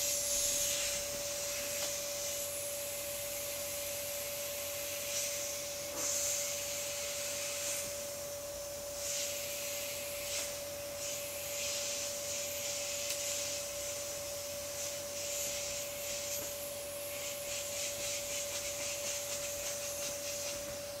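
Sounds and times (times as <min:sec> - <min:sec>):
air hissing out of valve: 0:00.0 - 0:04.0, 0:04.7 - 0:08.0, 0:09.0 - 0:20.8.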